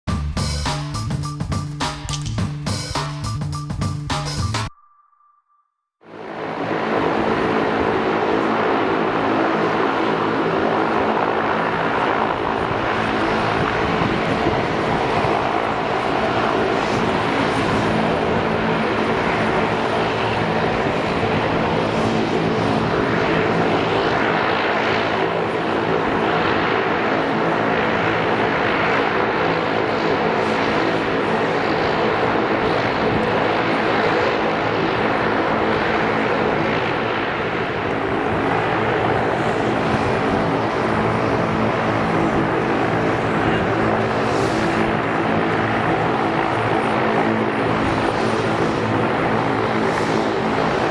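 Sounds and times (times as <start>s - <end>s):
turboprop engines running: 6.1s - 50.9s.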